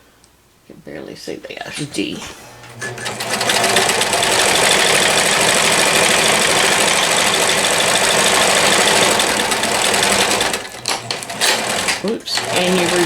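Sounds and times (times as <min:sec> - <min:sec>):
sewing machine running: 0:02.5 - 0:13.0.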